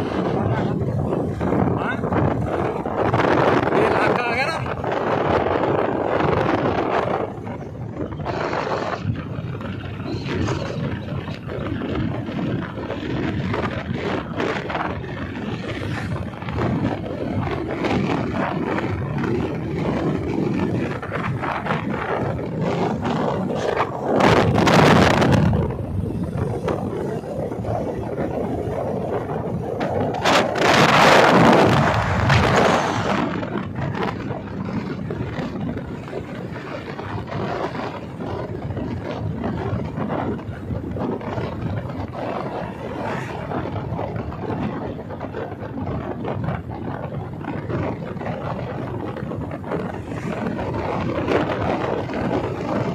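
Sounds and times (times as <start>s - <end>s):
road noise: 0.0s - 52.9s
wind rushing over microphone: 0.0s - 52.9s.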